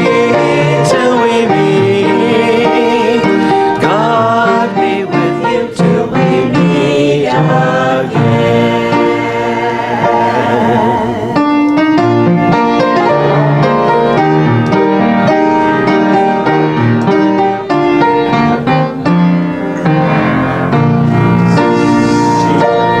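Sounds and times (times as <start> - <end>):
piano playing slow hymn: 0.0 - 23.0.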